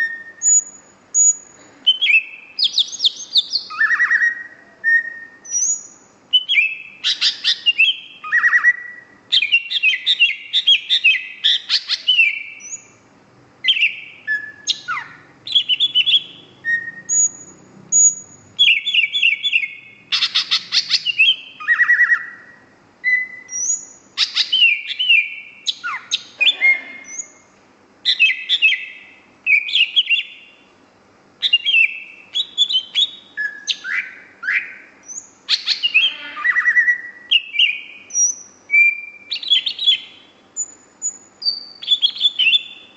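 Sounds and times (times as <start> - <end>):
bird singing chirps and trills: 0.0 - 13.0, 13.6 - 30.7, 31.4 - 42.9.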